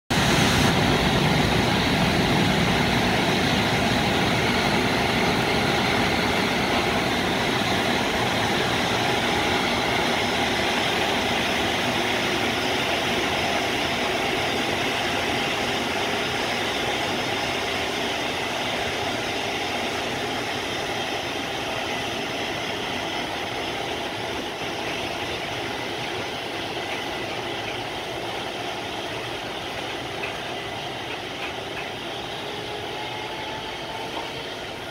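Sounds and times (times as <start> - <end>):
freight train wheels rumbling on rail: 0.1 - 34.9.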